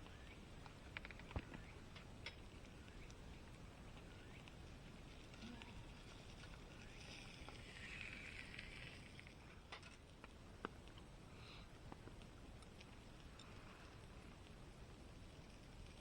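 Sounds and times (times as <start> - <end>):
soft hiss: 0.0 - 16.0.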